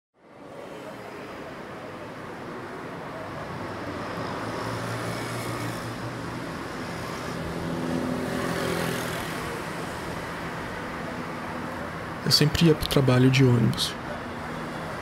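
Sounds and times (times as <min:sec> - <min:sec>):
street traffic: 0:00.2 - 0:15.0.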